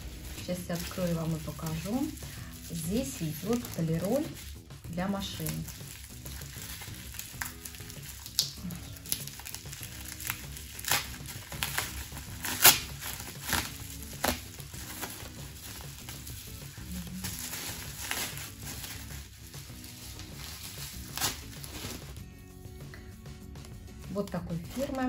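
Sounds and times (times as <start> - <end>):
plastic wrapping crinkling: 0.0 - 22.2, 24.0 - 25.0.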